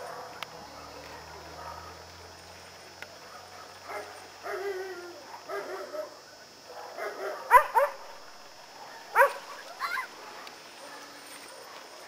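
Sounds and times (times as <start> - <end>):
large dog barking: 0.0 - 2.1, 3.2 - 12.0.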